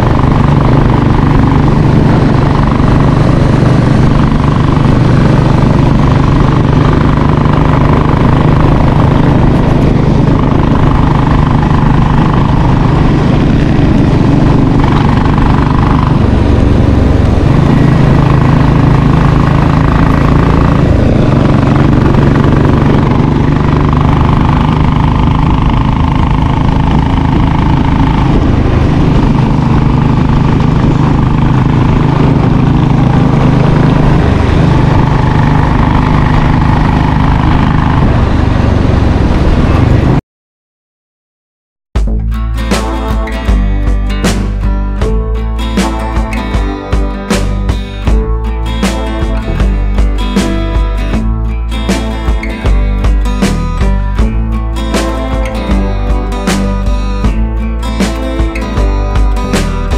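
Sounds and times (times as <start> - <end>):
motorcycle engine running: 0.0 - 40.2, 42.0 - 59.9.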